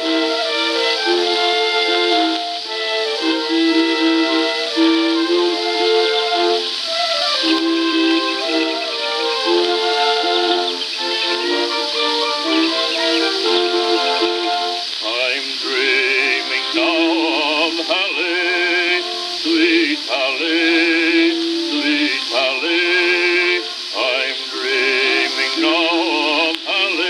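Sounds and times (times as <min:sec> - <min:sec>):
person whistling bird imitation: 0:00.0 - 0:27.0
small orchestra accompaniment: 0:00.0 - 0:27.0.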